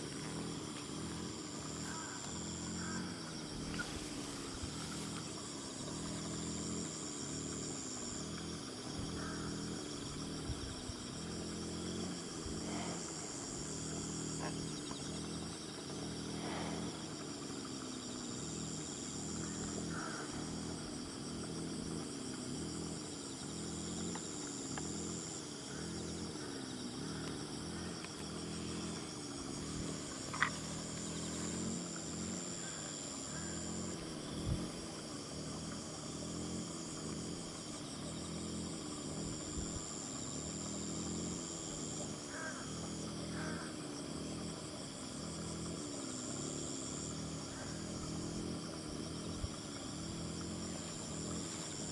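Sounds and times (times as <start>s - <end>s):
crickets and insects trilling: 0.0s - 51.9s
low wavering hum: 0.0s - 51.9s.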